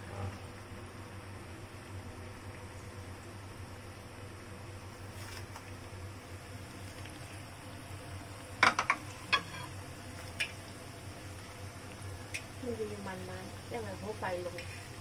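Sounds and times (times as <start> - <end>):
oil sizzling in wok: 0.0 - 15.0.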